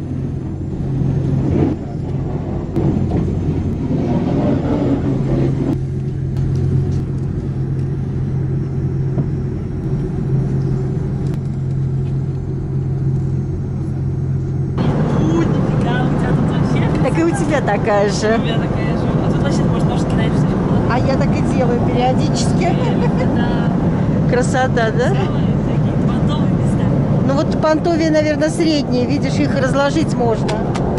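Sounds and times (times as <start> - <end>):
airliner cabin drone: 0.0 - 30.9.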